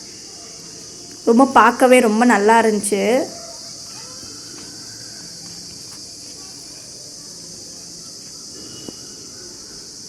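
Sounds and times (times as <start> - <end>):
insect chorus chirring: 0.0 - 10.0.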